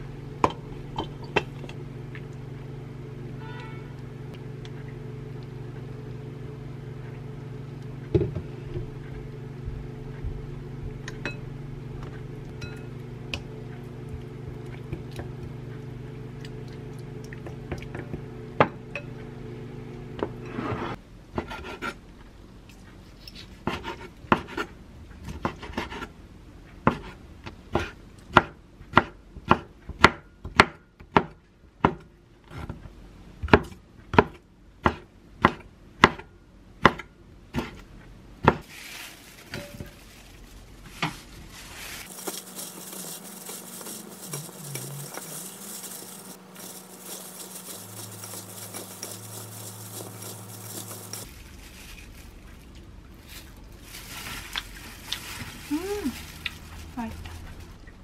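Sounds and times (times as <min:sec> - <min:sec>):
steady low hum: 0:00.0 - 0:29.5, 0:31.4 - 0:58.0.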